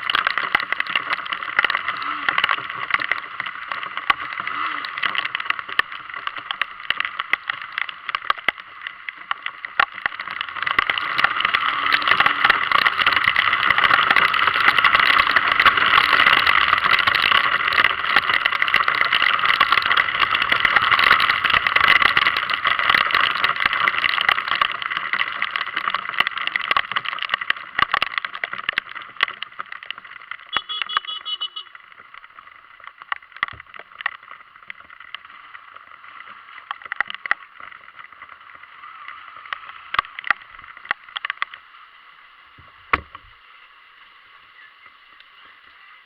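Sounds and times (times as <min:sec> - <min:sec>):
heavy rain pattering: 0:00.0 - 0:46.0.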